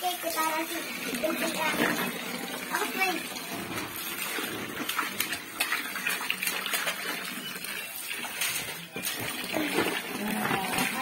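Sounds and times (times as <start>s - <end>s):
water pouring into pool: 0.0s - 11.0s
children splashing in water: 0.2s - 11.0s.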